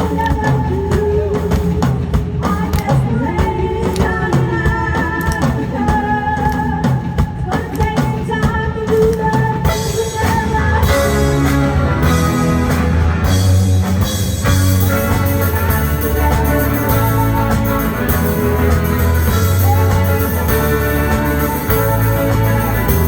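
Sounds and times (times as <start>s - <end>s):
rock music with singing: 0.0s - 23.0s.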